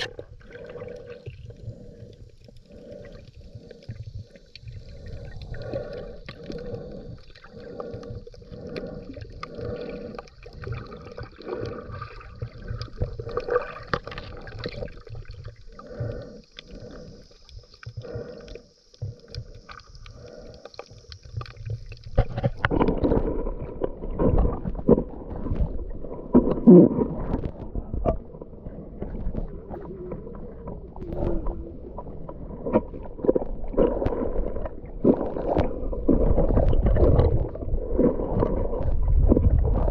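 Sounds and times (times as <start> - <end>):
underwater regulator bubbling: 0.0 - 39.9.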